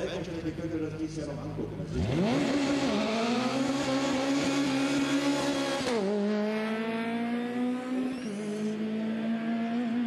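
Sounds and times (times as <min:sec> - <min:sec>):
race car accelerating hard: 0:01.6 - 0:10.0.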